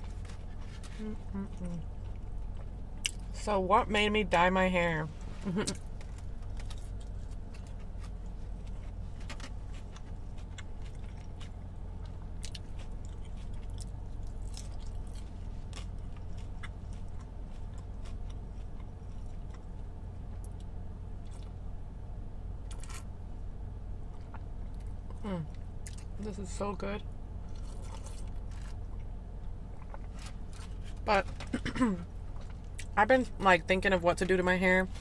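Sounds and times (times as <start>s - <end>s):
chewing and crunching: 0.0s - 3.4s, 5.4s - 21.8s, 22.6s - 23.3s, 24.0s - 33.4s
steady low hum: 0.0s - 35.0s.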